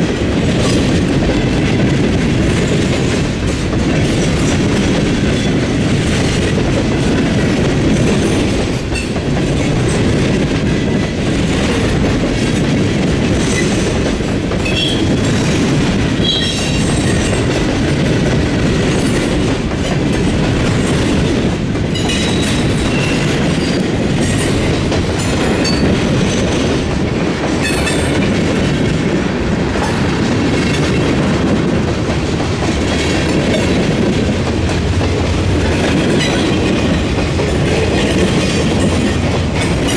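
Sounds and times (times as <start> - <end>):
freight train rumbling: 0.0 - 39.9
train wheels clickety-clack: 0.0 - 39.9.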